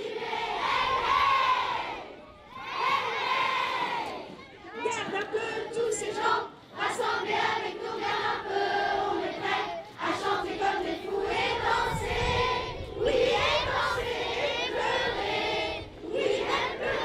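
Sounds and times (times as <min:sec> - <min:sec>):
group of women singing in chorus: 0:00.0 - 0:02.0, 0:04.9 - 0:17.0.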